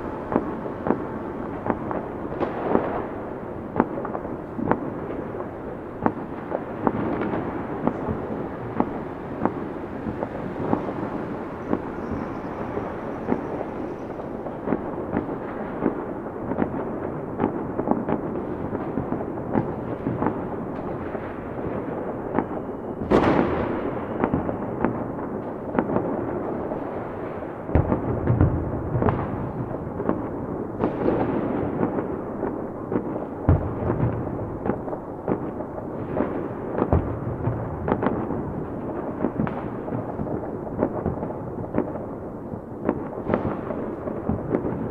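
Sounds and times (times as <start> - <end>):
fireworks crackling and popping: 0.0 - 44.9
loud firework booms: 0.0 - 44.9.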